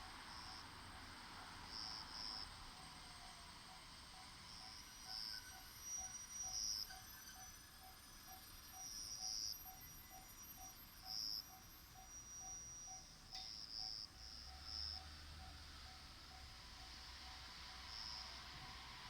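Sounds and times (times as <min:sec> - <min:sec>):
night insects singing: 0:00.1 - 0:19.0
level-crossing warning bell: 0:00.4 - 0:19.0.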